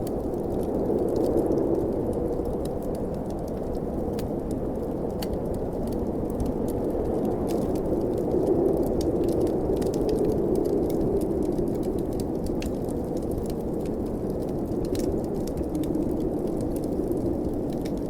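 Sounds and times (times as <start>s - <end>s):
blizzard wind rushing: 0.0s - 18.0s
wood fire crackling: 0.0s - 18.0s.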